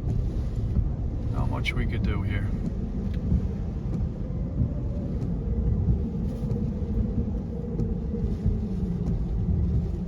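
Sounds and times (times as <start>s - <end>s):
car engine running: 0.0s - 10.0s
storm wind against car: 0.0s - 10.0s.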